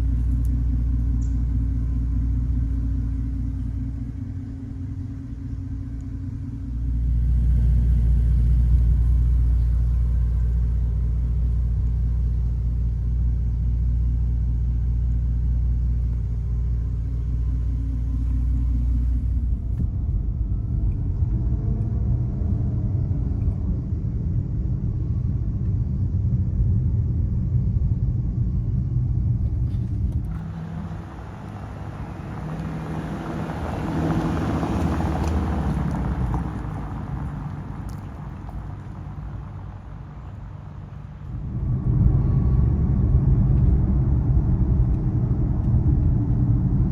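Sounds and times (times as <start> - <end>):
car engine low rumble: 0.0 - 46.9.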